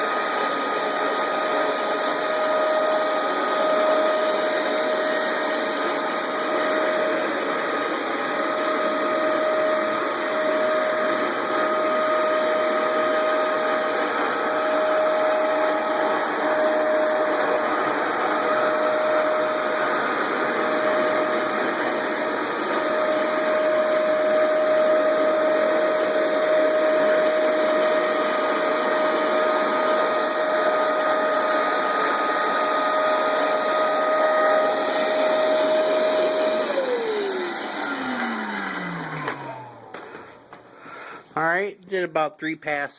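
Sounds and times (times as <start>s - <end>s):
carpet cleaner suction and motor whine: 0.0s - 41.1s.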